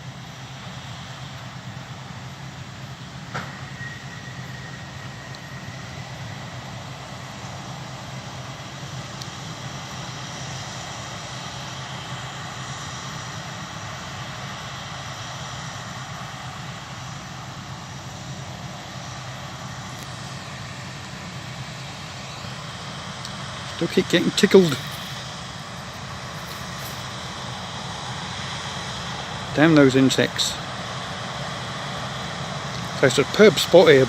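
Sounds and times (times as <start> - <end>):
harvest machinery engines droning: 0.0 - 34.0.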